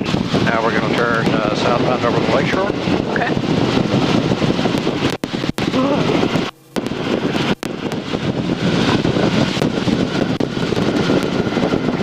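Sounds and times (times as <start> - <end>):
helicopter rotor and engine noise: 0.0 - 12.0.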